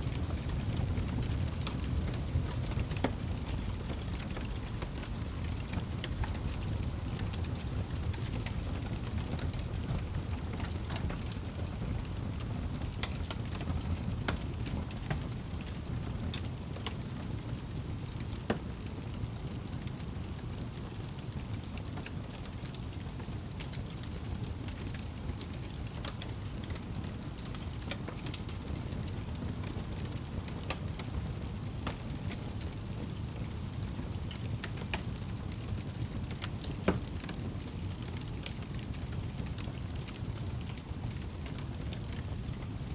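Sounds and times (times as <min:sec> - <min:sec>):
low rumble of flames: 0:00.0 - 0:42.9
wood fire crackling: 0:00.0 - 0:42.9.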